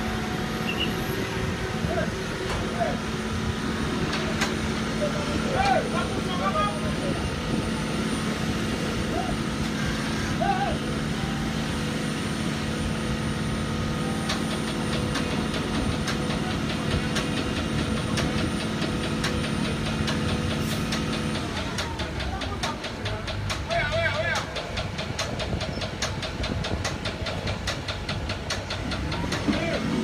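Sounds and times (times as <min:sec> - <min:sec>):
paver engine drone: 0:00.0 - 0:30.0.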